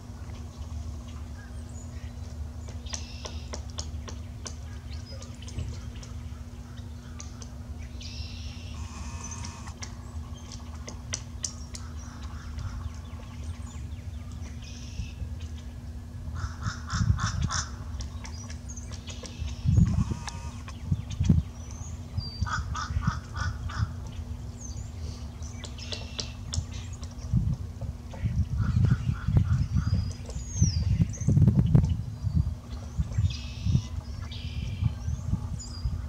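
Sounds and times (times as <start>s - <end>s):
low wind rumble: 0.0s - 36.0s
bird calls: 0.2s - 27.4s, 28.0s - 36.0s.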